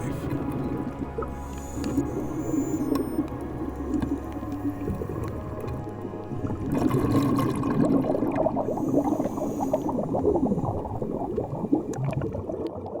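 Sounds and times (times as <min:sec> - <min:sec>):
underwater bubbling and gurgling: 0:00.0 - 0:13.0.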